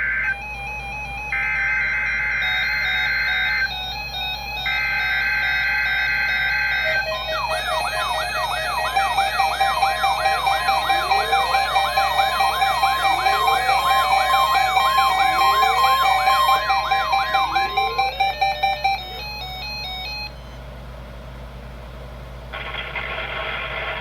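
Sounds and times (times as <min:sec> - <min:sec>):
warbling siren alarm: 0:00.0 - 0:20.6.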